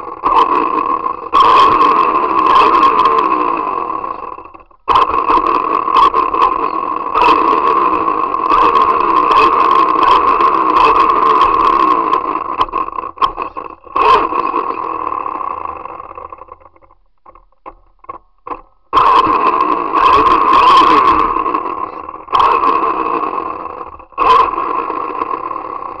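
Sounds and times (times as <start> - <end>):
toy car motor whining: 0.0 - 26.0.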